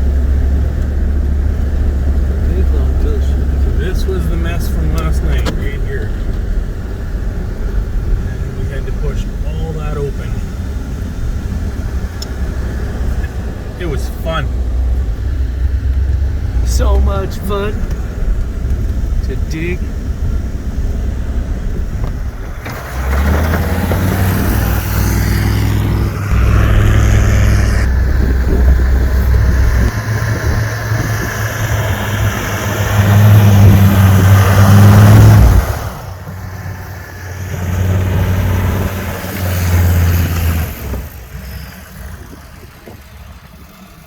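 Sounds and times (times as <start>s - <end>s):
truck engine revving under load: 0.0s - 44.0s.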